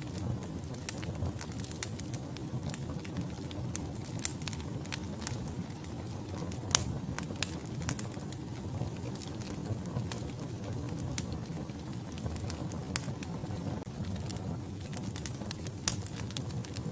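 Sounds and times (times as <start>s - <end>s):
wood fire crackling and popping: 0.0s - 16.9s.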